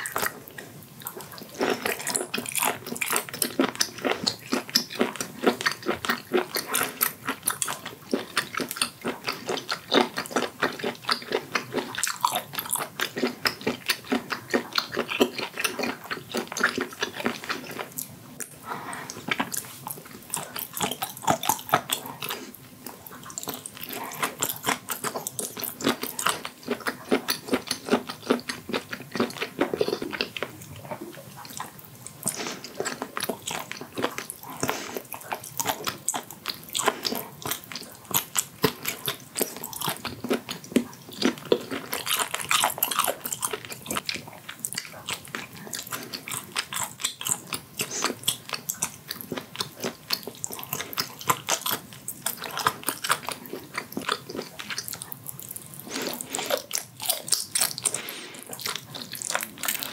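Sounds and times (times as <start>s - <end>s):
chewing mouth clicks and smacks: 0.0s - 59.9s.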